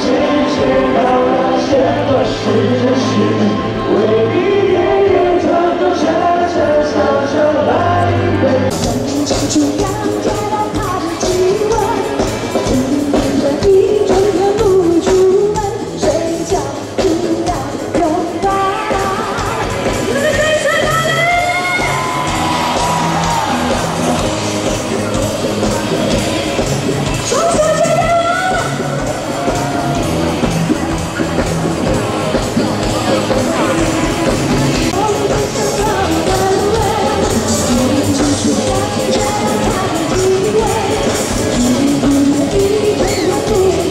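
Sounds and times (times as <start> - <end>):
loud rock music: 0.0 - 43.9
person singing: 0.0 - 43.9
steady drum beat: 8.7 - 43.9.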